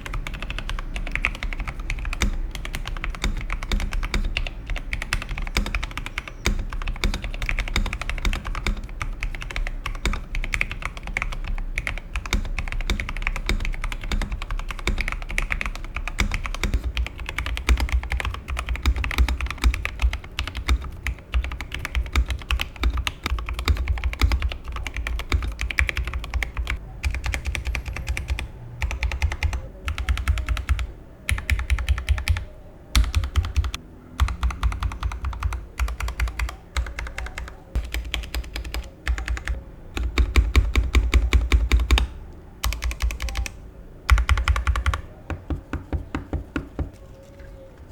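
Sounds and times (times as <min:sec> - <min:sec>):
mechanical keyboard typing: 0:00.0 - 0:47.5.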